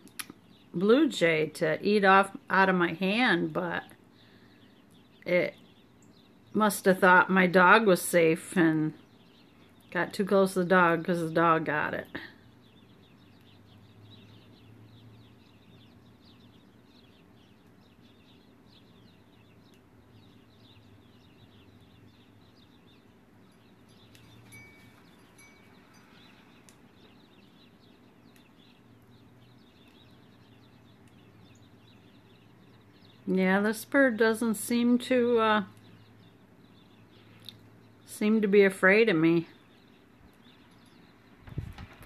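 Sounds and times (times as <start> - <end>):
low steady hum: 0.0 - 42.0
songbirds chirping: 0.0 - 42.0.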